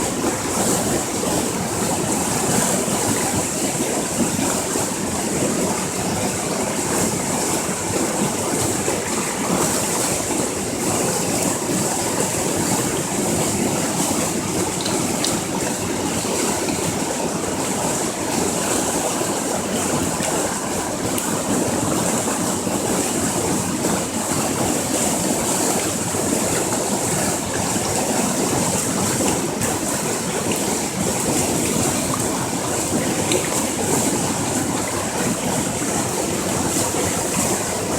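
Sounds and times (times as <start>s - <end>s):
waterfall roaring: 0.0s - 37.9s.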